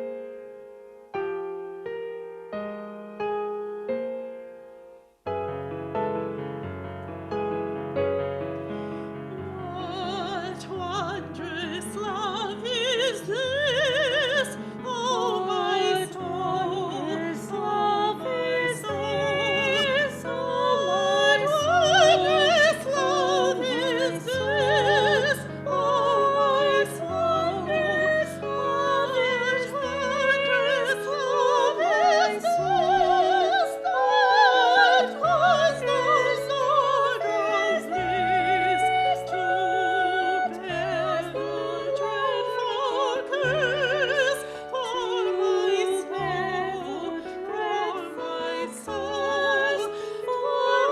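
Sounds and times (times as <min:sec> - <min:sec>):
piano accompaniment: 0:00.0 - 0:50.9
classical singing with vibrato: 0:05.5 - 0:50.9.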